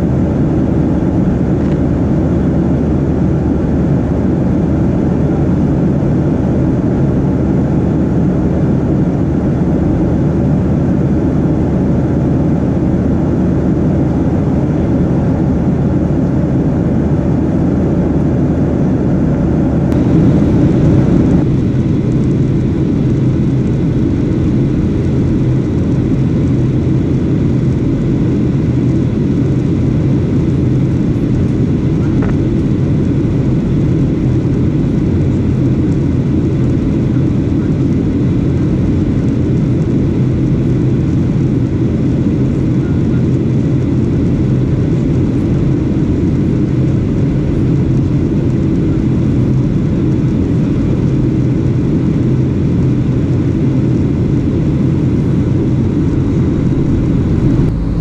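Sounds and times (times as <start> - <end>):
jet cabin rumble: 0.0 - 58.0.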